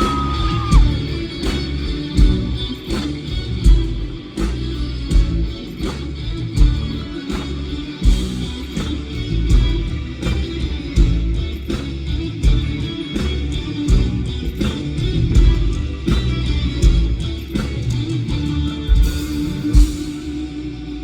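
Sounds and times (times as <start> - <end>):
live rock band playing: 0.0 - 20.9.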